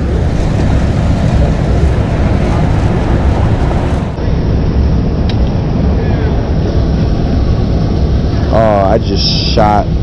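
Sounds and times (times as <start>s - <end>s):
low rumbling noise: 0.0s - 10.0s.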